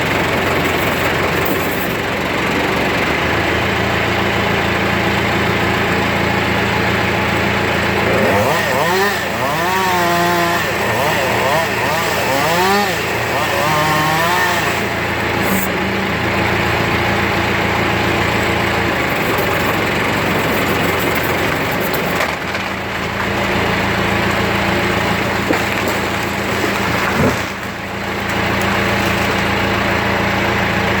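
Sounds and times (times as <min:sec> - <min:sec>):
chainsaw engine running: 0:00.0 - 0:31.0.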